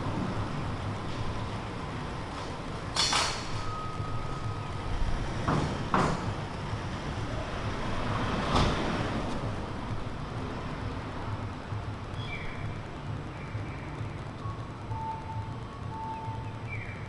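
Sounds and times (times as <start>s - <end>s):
passing road vehicles rumble: 0.0s - 17.0s.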